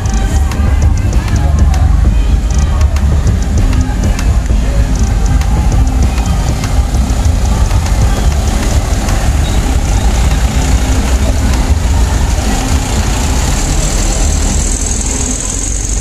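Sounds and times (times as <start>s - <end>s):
diesel bus engines rumbling: 0.0s - 16.0s.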